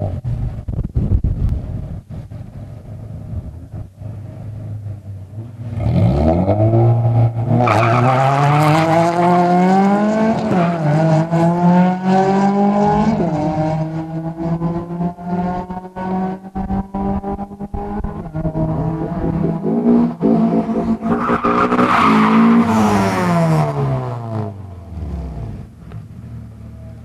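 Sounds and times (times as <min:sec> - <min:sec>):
car engine accelerating hard: 0:03.2 - 0:27.0.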